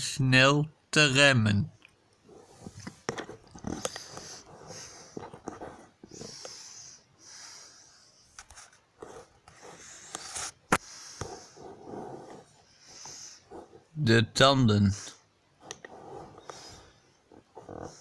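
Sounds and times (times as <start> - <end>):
soft breathing: 2.3 - 14.0, 14.9 - 18.0.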